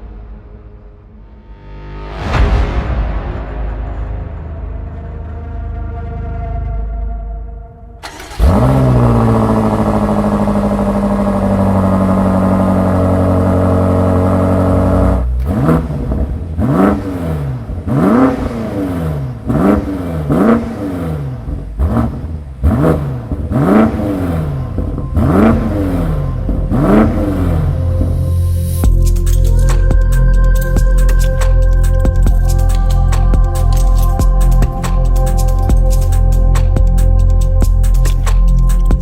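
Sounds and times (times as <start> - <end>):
car engine starting and revving: 0.0 - 39.0.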